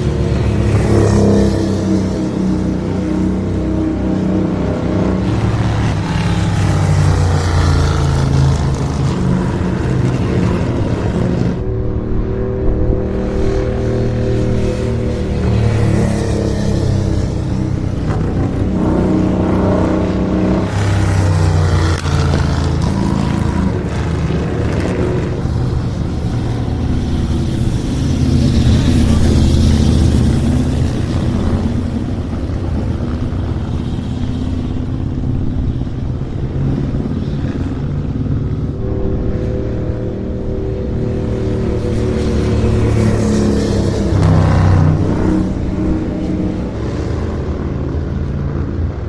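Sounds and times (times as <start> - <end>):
racing motorcycle engines revving: 0.0 - 49.0.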